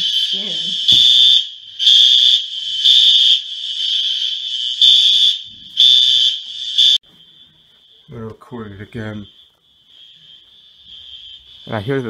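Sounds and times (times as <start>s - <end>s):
fainter alarm tone: 0.0s - 12.0s
fire alarm beeps: 0.0s - 12.0s.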